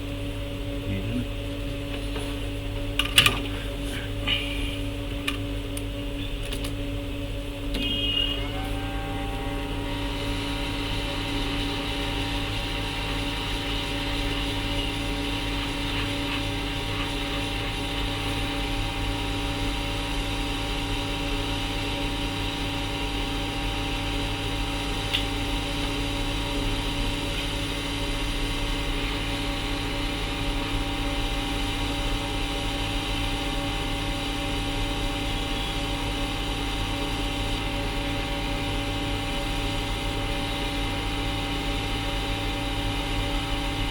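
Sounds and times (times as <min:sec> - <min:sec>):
constant hum: 0:00.0 - 0:43.9
electric fan motor whirring: 0:00.0 - 0:43.9.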